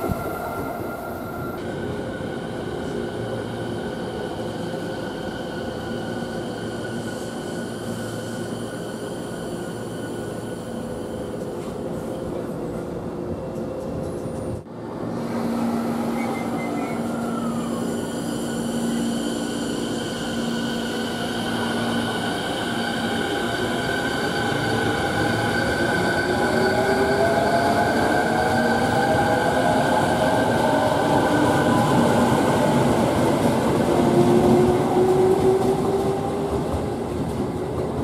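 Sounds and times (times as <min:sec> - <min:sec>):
electric train running hum: 0:00.0 - 0:38.0.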